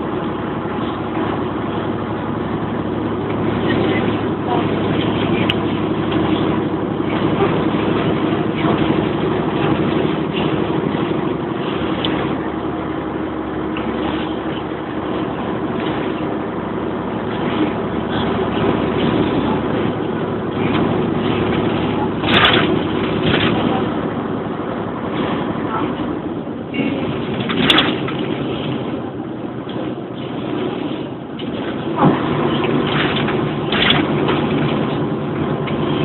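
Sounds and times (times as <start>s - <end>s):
diesel engine drone: 0.0s - 36.0s
tyre and road noise: 0.0s - 36.0s.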